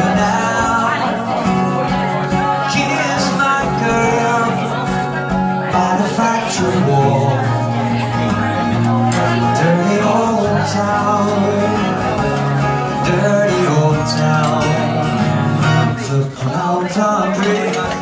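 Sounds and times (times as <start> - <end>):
acoustic guitars strummed: 0.0 - 18.0
man singing: 0.0 - 18.0.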